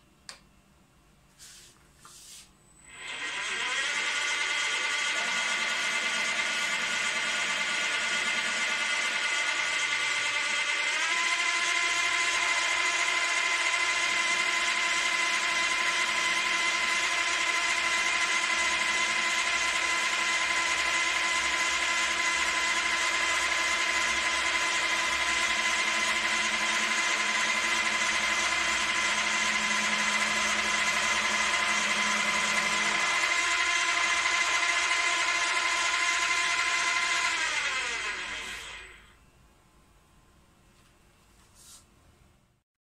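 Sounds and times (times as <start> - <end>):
milling machine whine: 2.8 - 39.2.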